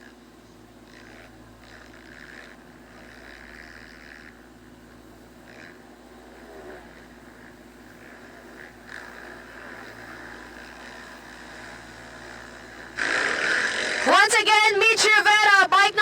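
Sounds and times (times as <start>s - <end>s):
faint motocross bike engines: 0.0s - 16.0s
steady low hum: 0.0s - 16.0s.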